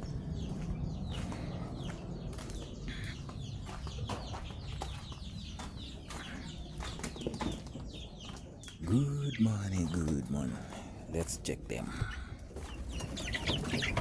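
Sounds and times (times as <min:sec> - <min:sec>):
chickens clucking: 0:00.4 - 0:14.0.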